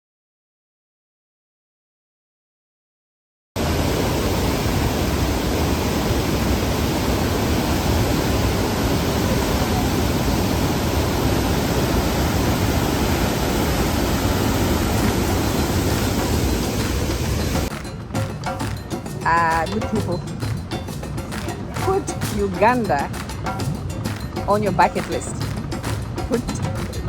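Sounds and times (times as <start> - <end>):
steady loud rushing noise: 3.6 - 27.0.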